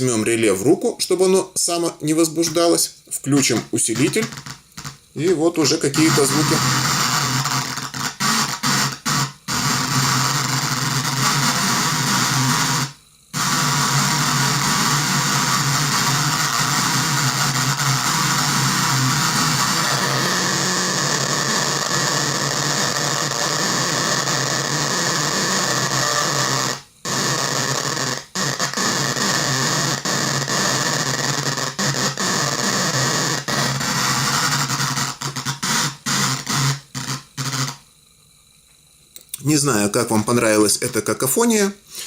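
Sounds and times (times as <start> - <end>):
harsh noisy speaker cacophony: 0.0 - 37.8.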